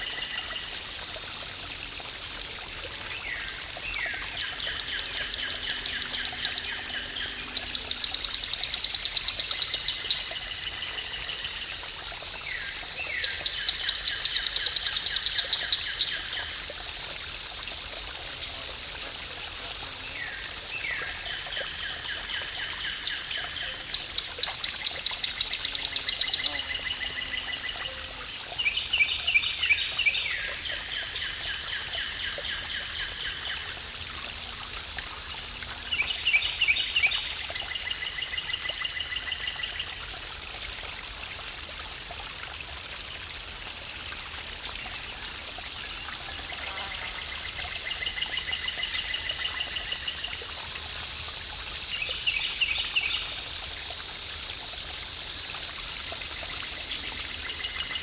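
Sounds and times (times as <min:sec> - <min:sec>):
small waterfall rushing: 0:00.0 - 0:58.0.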